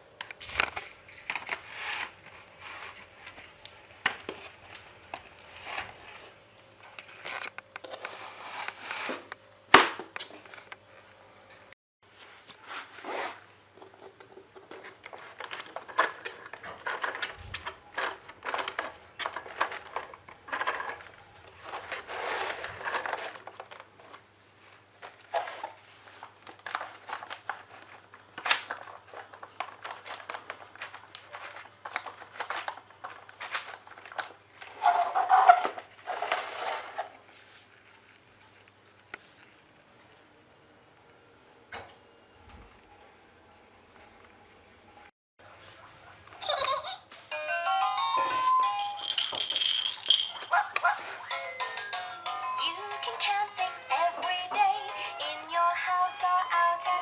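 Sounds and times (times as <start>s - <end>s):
toys and plastic packaging handled: 0.3s - 11.2s, 13.6s - 40.3s, 48.0s - 57.0s.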